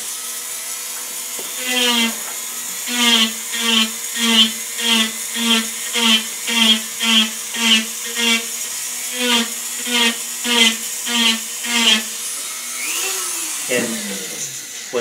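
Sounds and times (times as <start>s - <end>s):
rotary carving tool buzzing: 0.0s - 15.0s.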